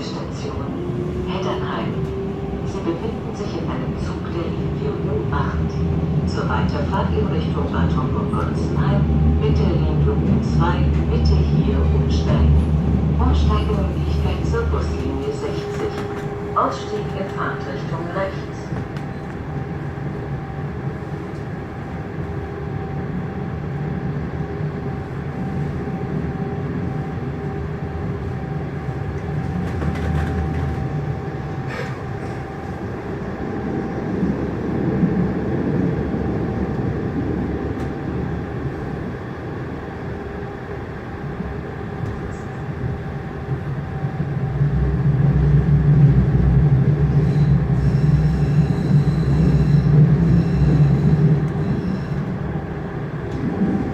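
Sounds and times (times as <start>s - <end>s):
deep train rumble: 0.0s - 53.9s
subway train running noise: 0.0s - 53.9s.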